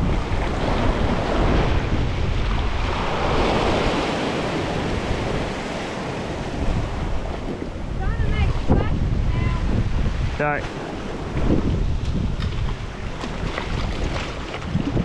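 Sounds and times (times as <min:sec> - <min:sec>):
sea swell washing over rocks: 0:00.0 - 0:15.0
wind buffeting microphone: 0:00.0 - 0:15.0.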